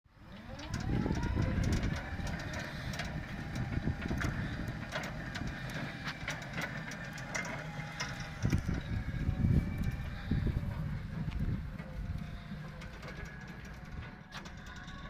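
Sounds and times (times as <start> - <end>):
electric pallet truck motor whining: 0.1 - 15.0.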